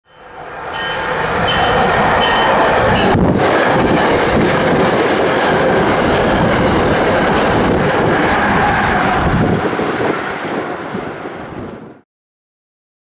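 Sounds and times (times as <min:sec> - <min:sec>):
train rumbling on rails: 0:00.1 - 0:12.0.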